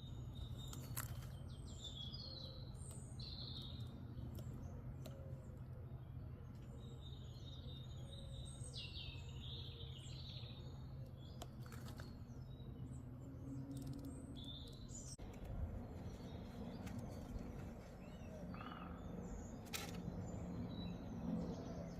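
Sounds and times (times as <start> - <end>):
forest birds chirping: 0.0 - 21.9
low background rumble: 0.0 - 21.9.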